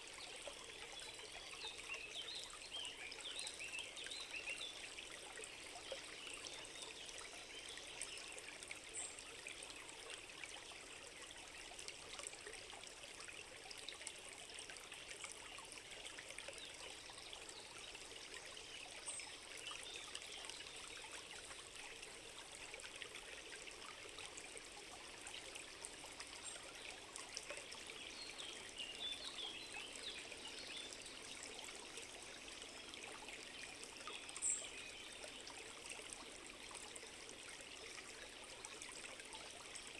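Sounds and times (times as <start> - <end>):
forest stream trickling: 0.0 - 39.9.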